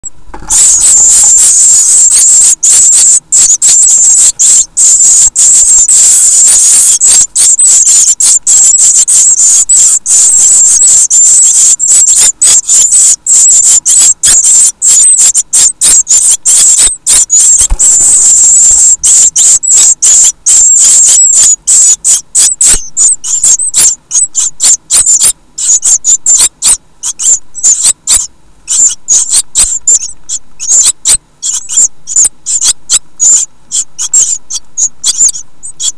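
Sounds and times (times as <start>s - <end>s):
nestlings begging chatter: 0.3s - 35.9s.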